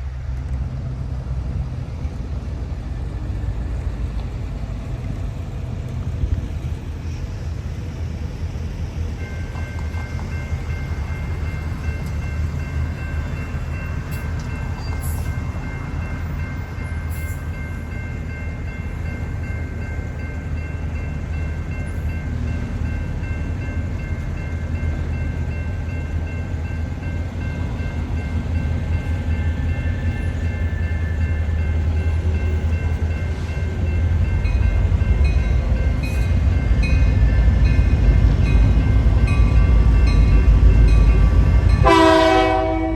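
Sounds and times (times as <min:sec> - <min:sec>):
diesel freight train rumbling: 0:00.0 - 0:42.9.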